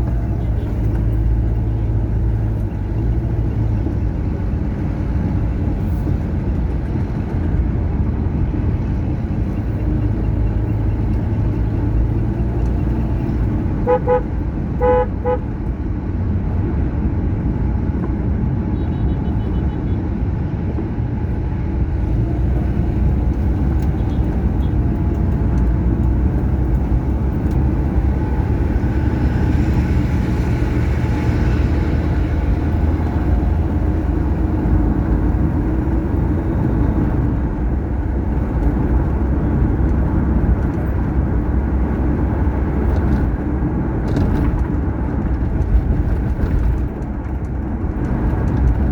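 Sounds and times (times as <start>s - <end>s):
car driving on highway: 0.0s - 48.9s.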